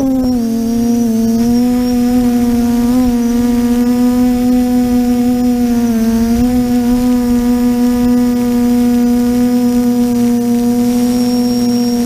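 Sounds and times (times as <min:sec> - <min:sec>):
quadcopter motors humming: 0:00.0 - 0:12.0
wind rumble on microphone: 0:00.0 - 0:12.0.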